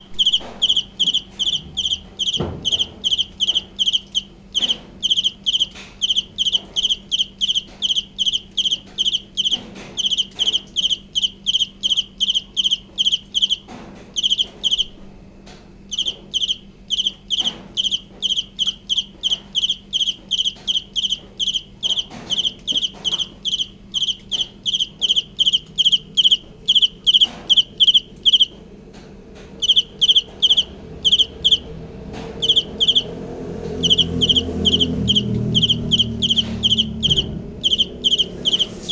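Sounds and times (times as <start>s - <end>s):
cricket chirping: 0.0s - 15.0s, 15.9s - 28.6s, 29.6s - 38.9s.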